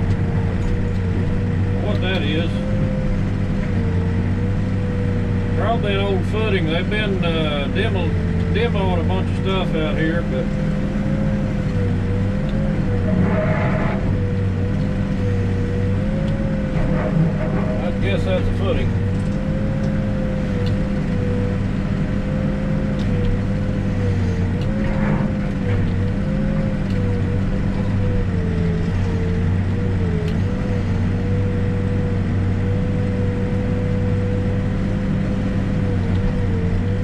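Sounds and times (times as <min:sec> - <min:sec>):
steady whine: 0:00.0 - 0:34.4
diesel engine running: 0:00.0 - 0:37.0.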